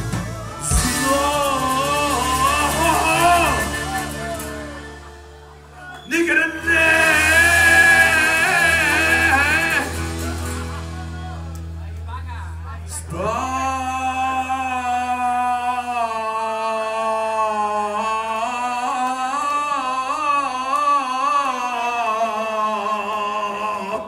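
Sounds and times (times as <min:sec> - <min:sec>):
man singing a long note: 0:00.6 - 0:04.8, 0:06.1 - 0:10.4, 0:12.9 - 0:24.0.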